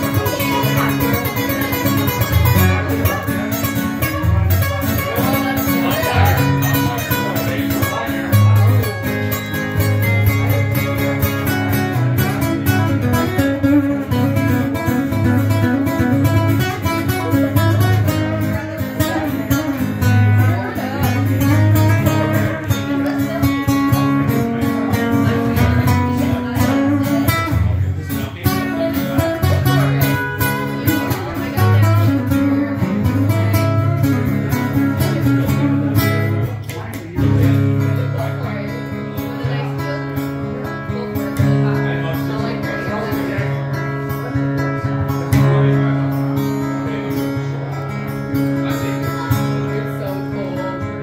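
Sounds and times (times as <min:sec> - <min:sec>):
acoustic guitar strummed and picked: 0:00.0 - 0:51.0.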